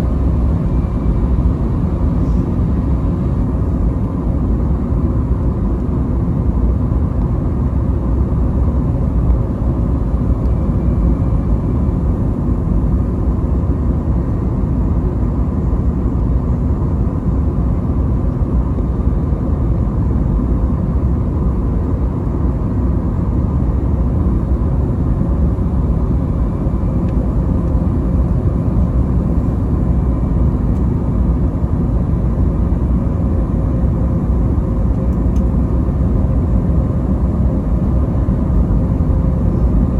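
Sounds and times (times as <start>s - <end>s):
airliner cabin engine rumble: 0.0s - 39.9s
faint steady hum: 0.0s - 39.9s.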